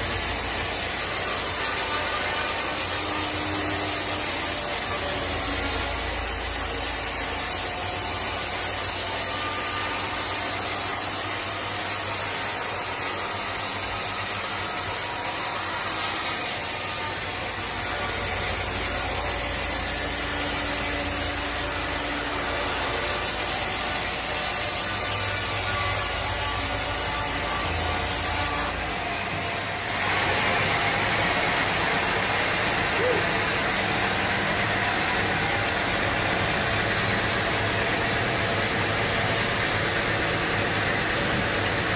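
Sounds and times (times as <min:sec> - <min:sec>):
saw cutting through wood: 0:00.0 - 0:41.9
sawmill machinery running: 0:00.0 - 0:41.9.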